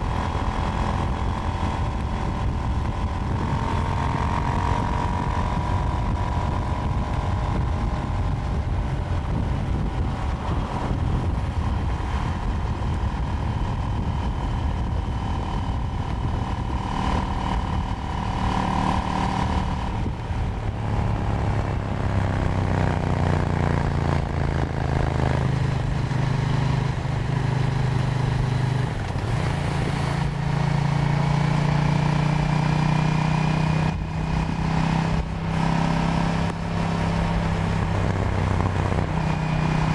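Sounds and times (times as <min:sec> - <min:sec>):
low wind rush: 0:00.0 - 0:39.9
motorcycle engine running: 0:00.0 - 0:39.9.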